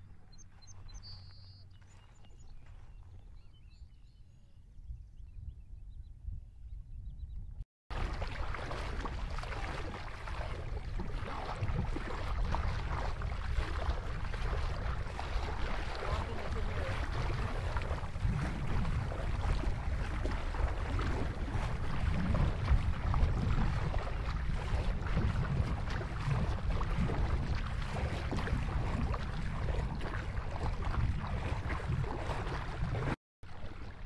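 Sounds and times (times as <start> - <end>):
feet wading through shallow water: 0.0 - 3.8, 7.9 - 34.0
wind rumble on microphone: 0.0 - 34.0.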